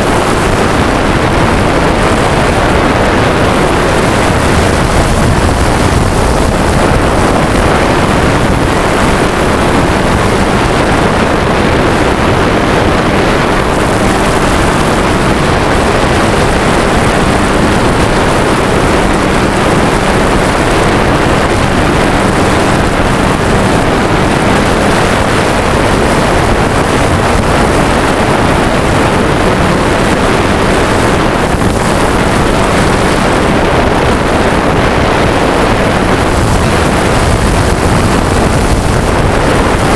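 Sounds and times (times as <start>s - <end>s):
drone propellers whirring: 0.0s - 39.9s
wind noise on microphone: 0.0s - 39.9s.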